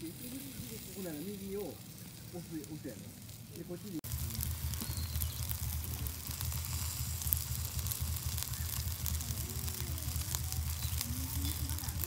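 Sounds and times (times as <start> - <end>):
low rumble: 0.0 - 12.0
skewers sizzling over charcoal: 0.0 - 12.0.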